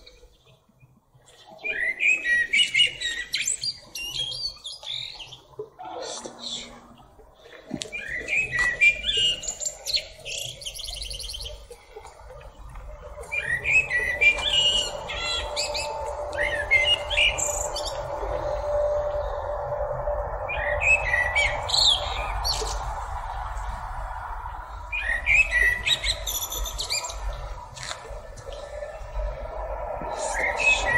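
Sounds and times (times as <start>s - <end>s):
blackbird singing: 1.3s - 7.1s, 7.9s - 11.7s, 13.2s - 23.0s, 24.8s - 29.3s, 30.1s - 30.9s
low hum: 5.6s - 30.9s.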